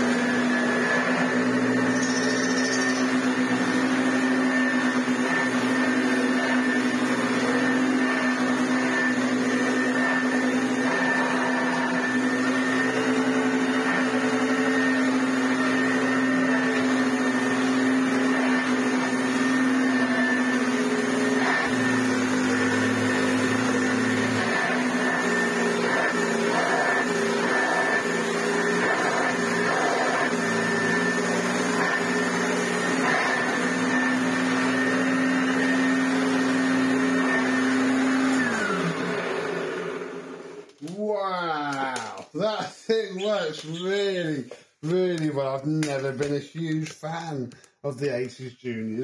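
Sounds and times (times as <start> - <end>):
upright vacuum cleaner whining: 0.0 - 47.9.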